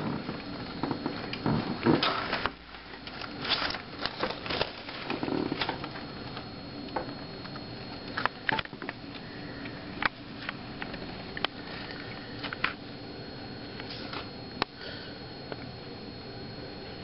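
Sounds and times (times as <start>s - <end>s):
steady hum: 0.0s - 17.0s
thin high whine: 0.0s - 17.0s.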